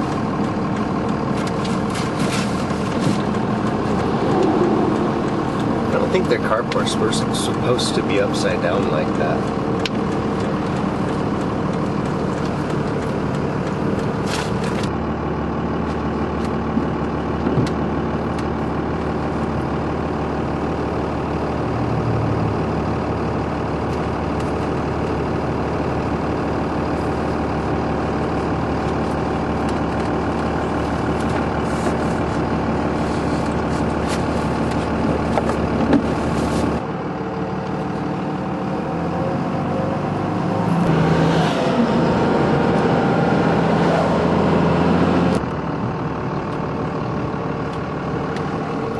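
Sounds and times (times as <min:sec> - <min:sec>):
car engine and road noise: 0:00.0 - 0:48.9.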